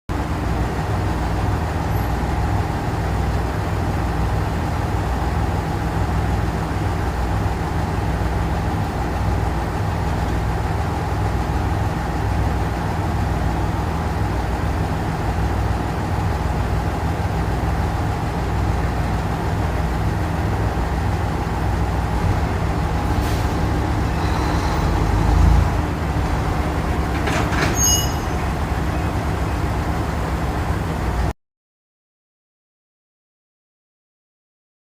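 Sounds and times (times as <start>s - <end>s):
train equipment low rumble and hum: 0.1s - 31.3s.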